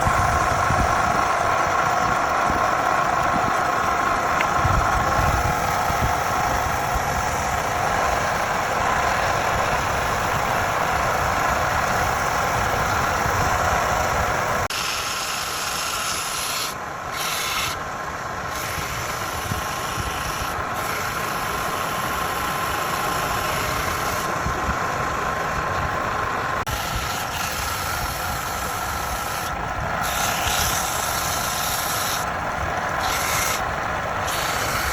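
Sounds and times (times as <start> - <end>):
tool scraping spinning wood: 0.0 - 24.4, 26.6 - 34.9
lathe motor hum: 0.0 - 34.9.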